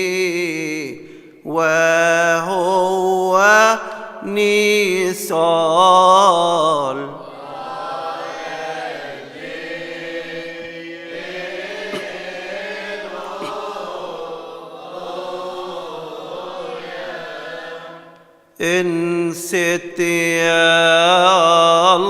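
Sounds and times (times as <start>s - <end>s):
hymn chanted in long notes: 0.0s - 22.0s.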